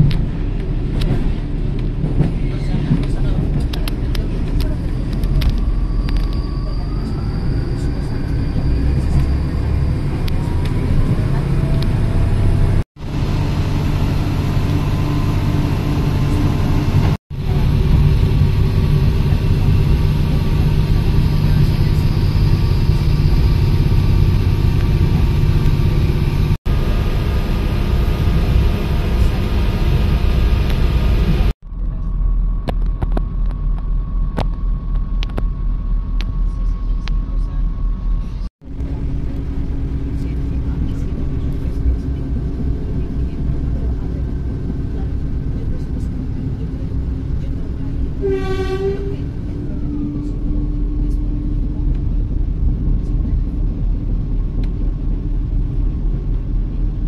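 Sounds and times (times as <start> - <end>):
train rumbling inside carriage: 0.0 - 57.0.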